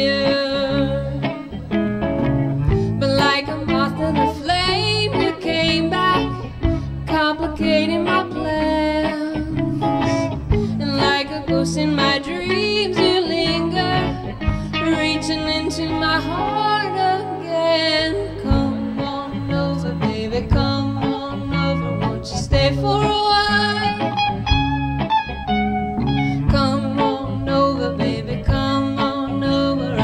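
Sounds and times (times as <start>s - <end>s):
woman singing into microphone: 0.0s - 1.6s, 2.8s - 24.7s, 26.3s - 30.0s
rock band playing: 0.0s - 17.1s, 18.4s - 30.0s.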